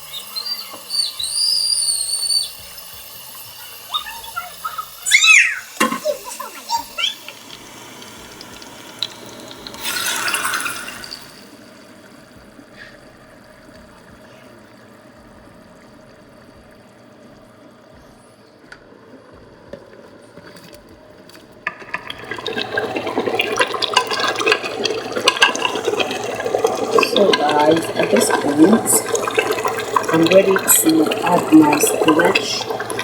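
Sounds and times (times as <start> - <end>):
water rushing: 0.0 - 18.1, 21.6 - 33.0.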